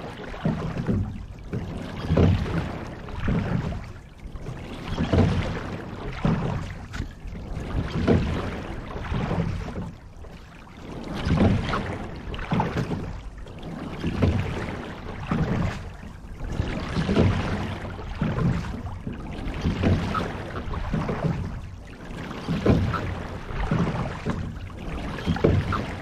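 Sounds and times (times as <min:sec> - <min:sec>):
water rushing along a rowing boat: 0:00.0 - 0:26.0.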